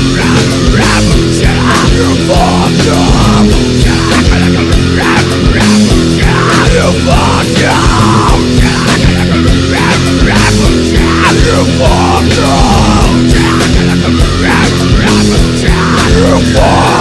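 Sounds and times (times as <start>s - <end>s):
heavy rock music: 0.0s - 17.0s.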